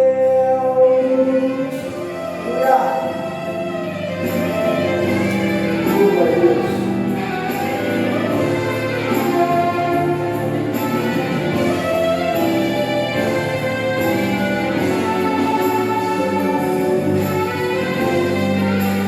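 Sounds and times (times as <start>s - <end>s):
guitar: 0.0s - 19.0s.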